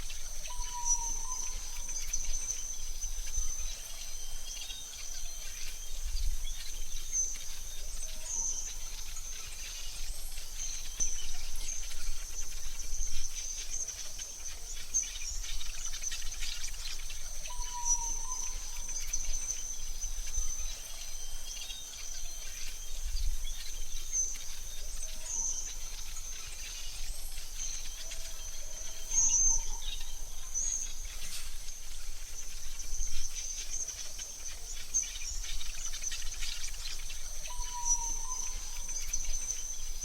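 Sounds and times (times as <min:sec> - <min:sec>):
high-pitched insect trill: 0:00.0 - 0:40.0.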